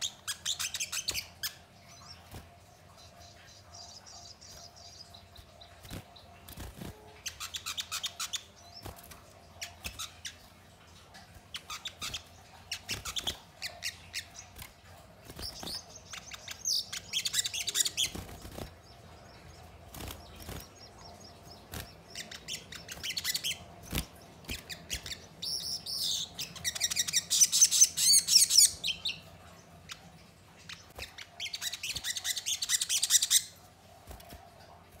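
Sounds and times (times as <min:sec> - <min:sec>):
bird high rapid chirping: 0:00.0 - 0:33.6.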